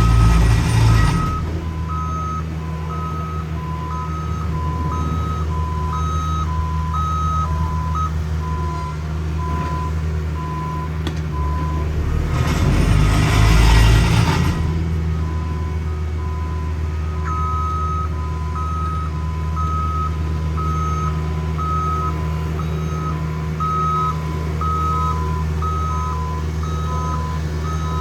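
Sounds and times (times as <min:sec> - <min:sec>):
back-up alarms beeping: 0:00.0 - 0:12.2, 0:14.5 - 0:28.0
diesel engine running: 0:00.0 - 0:28.0.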